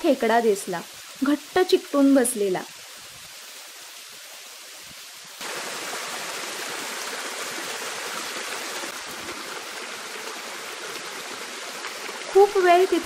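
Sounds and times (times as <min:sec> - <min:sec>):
small waterfall falling water: 0:00.0 - 0:13.0.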